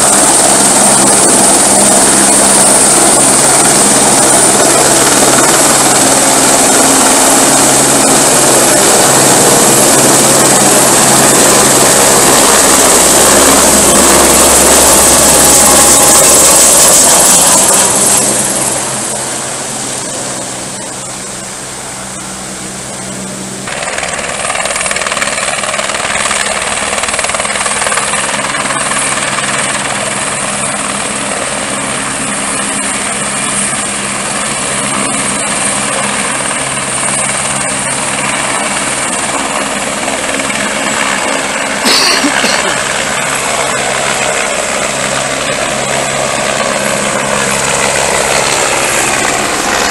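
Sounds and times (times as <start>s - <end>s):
helicopter rotor noise: 0.0s - 49.9s
helicopter turbine whine: 0.0s - 49.9s.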